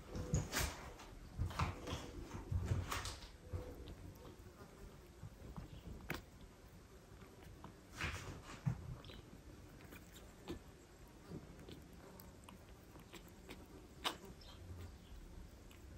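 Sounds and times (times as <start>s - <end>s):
cat licking and rustling: 0.0s - 15.9s.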